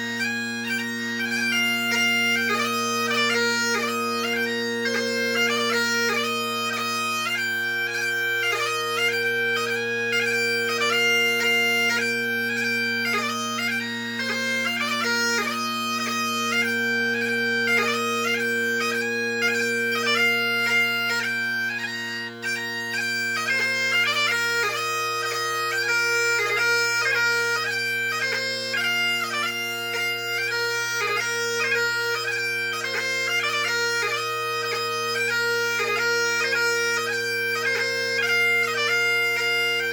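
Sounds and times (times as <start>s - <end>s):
bagpipe chanter melody: 0.0s - 39.9s
bagpipe drones: 0.0s - 39.9s.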